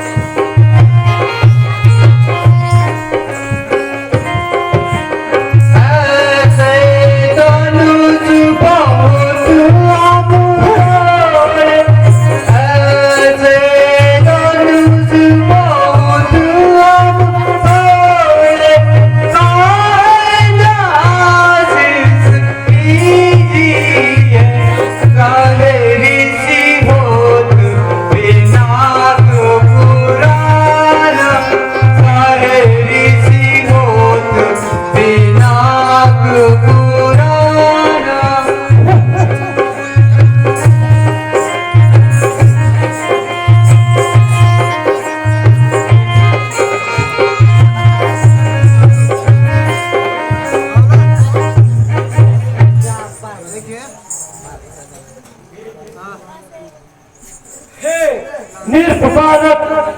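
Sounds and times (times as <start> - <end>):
hand drum beat: 0.0 - 26.0, 26.7 - 53.2
person singing gliding melody: 0.0 - 53.3.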